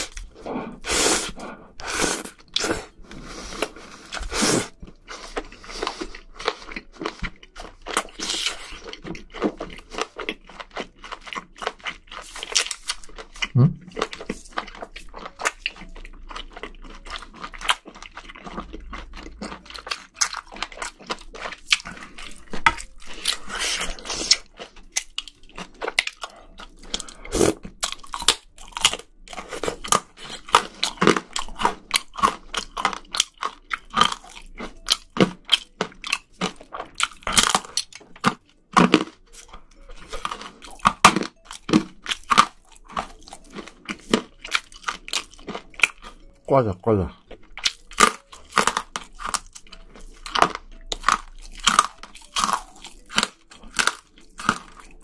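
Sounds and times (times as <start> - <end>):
chewing with sharp crunches: 0.0 - 55.0.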